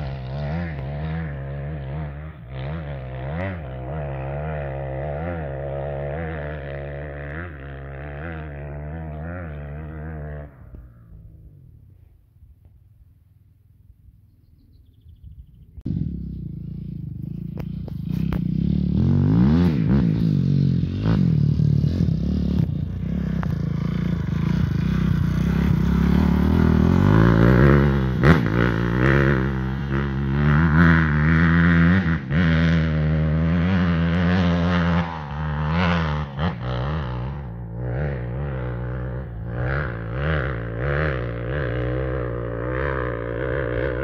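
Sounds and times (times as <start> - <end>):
dirt bike engine revving: 0.0 - 11.6, 15.8 - 44.0.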